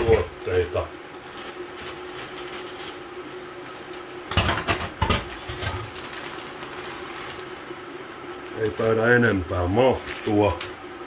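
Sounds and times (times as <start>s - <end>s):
plastic bag crinkling: 0.1s - 7.8s, 8.4s - 10.8s.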